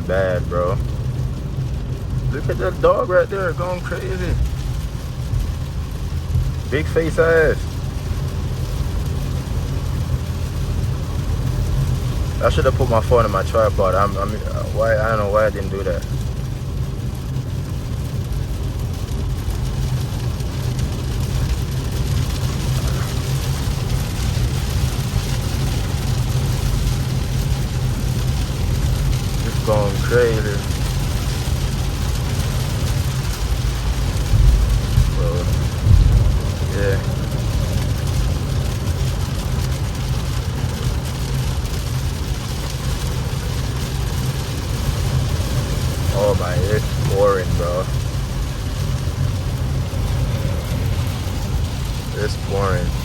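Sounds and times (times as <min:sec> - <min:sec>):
car engine and road drone: 0:00.0 - 0:53.0
rain and tyre spray hiss: 0:00.0 - 0:53.0.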